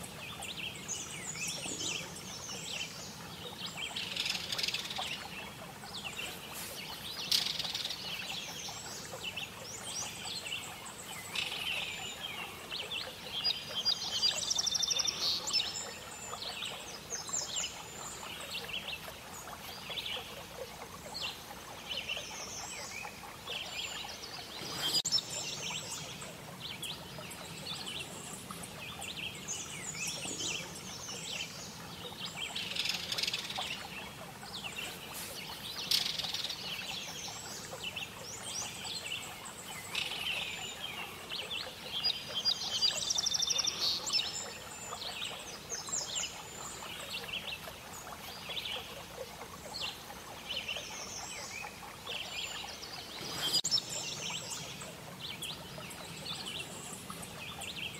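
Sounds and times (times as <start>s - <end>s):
faint steady hiss: 0.0s - 57.9s
small birds chirping: 0.0s - 57.9s.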